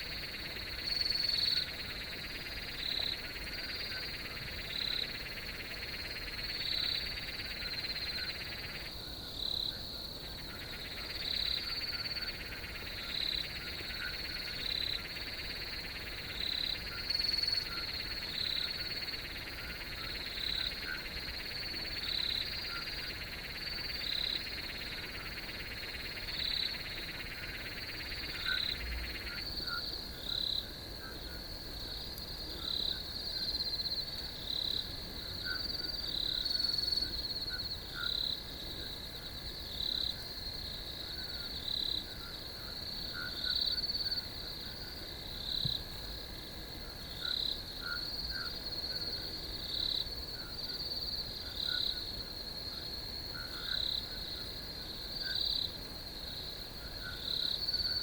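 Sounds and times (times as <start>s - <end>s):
lower dense insect chorus: 0.0s - 58.0s
short lower insect calls: 0.0s - 58.0s.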